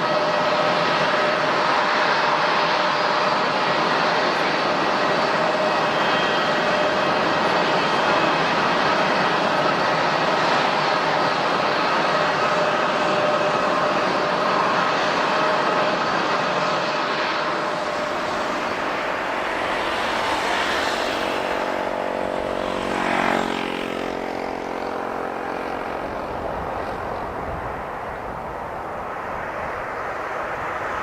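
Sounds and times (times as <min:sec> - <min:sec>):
airliner engines whining: 0:00.0 - 0:31.0.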